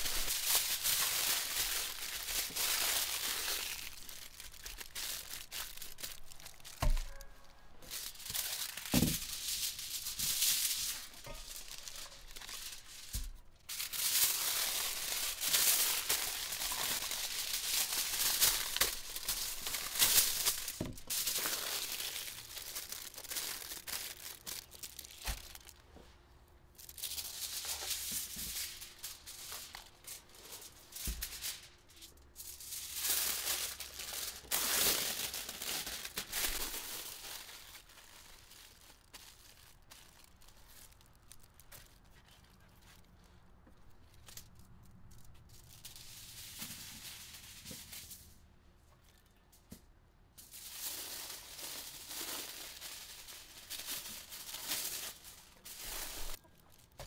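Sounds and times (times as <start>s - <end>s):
aluminium foil crinkling: 0.0s - 25.9s, 26.7s - 48.4s, 50.4s - 57.0s.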